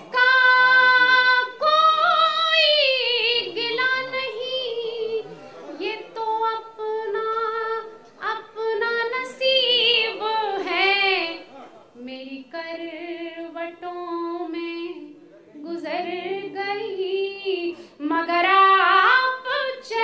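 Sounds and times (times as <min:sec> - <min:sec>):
woman singing unaccompanied: 0:00.0 - 0:20.0.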